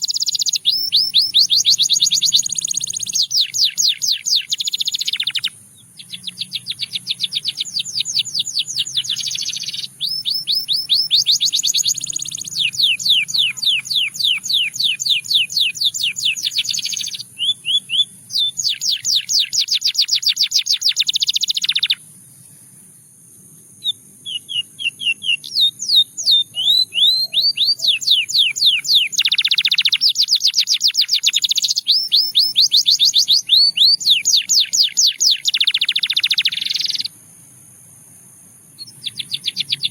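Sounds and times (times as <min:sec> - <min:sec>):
canary singing rapid trills: 0:00.0 - 0:22.1, 0:23.8 - 0:37.2, 0:38.8 - 0:39.9.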